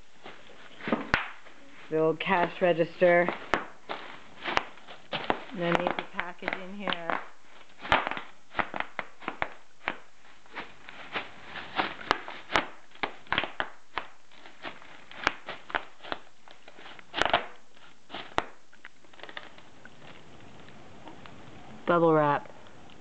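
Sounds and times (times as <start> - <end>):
bubble wrap popping: 0.0 - 21.4.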